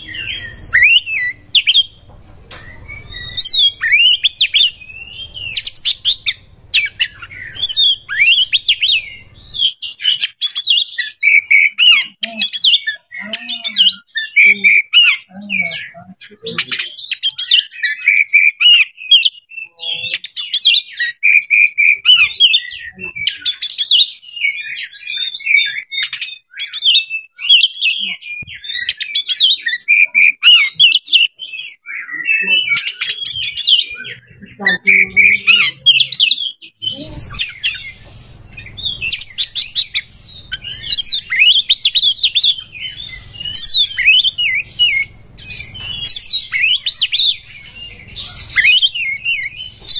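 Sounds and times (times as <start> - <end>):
bird singing: 0.0 - 49.9.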